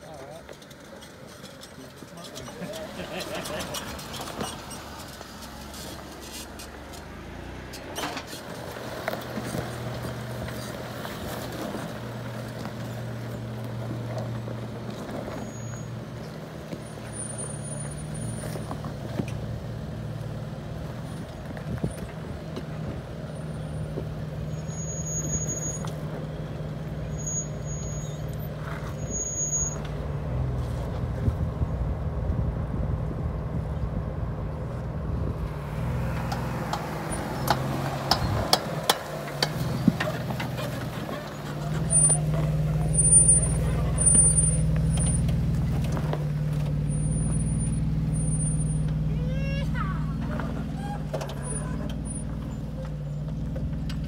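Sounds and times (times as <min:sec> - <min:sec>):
car engine low drone: 0:00.0 - 0:54.0.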